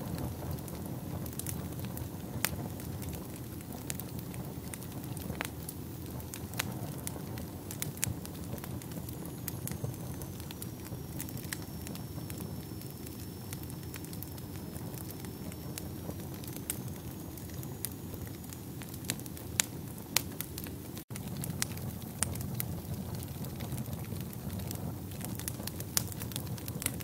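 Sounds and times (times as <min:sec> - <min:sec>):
fire popping: 0:00.0 - 0:27.0
wood fire crackling: 0:00.0 - 0:27.0.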